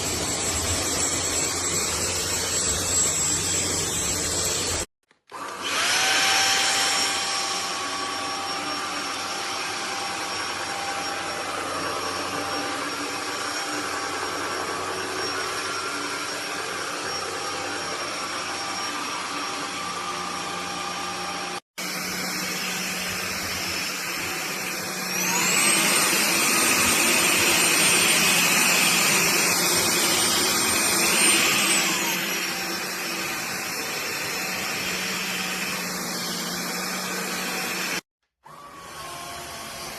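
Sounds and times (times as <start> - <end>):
vacuum cleaner motor whining: 0.0 - 39.9.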